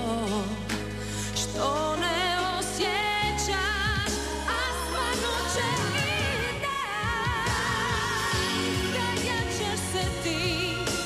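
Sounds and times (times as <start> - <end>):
band accompaniment: 0.0 - 11.0
woman singing: 0.0 - 11.0.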